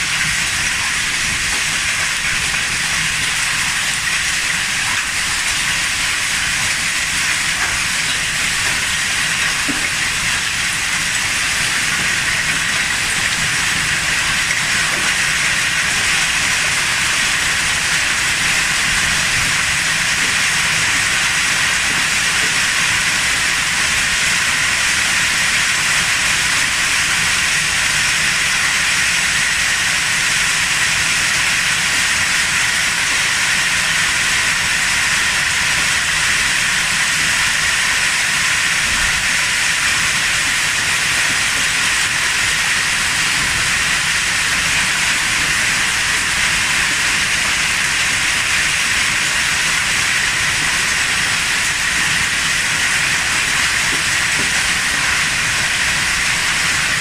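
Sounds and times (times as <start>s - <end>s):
hail and rain pelting down: 0.0s - 57.0s.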